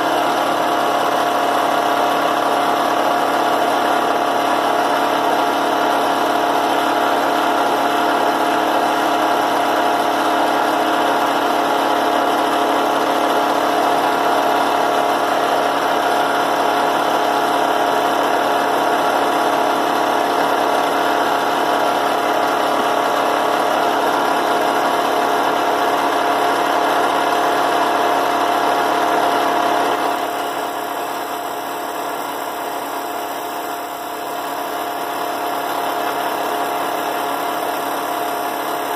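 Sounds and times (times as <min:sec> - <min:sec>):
drill press motor hum: 0:00.0 - 0:38.9.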